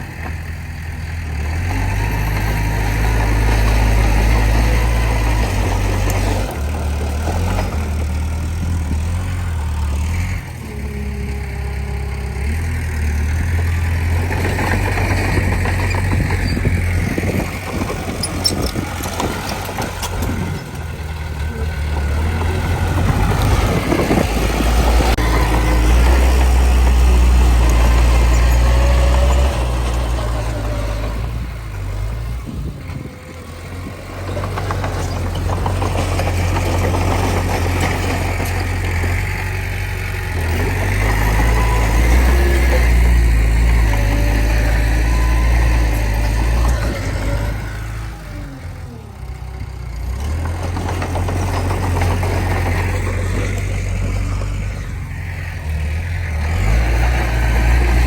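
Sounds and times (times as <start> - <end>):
bulldozer diesel engine working hard: 0.0 - 58.0.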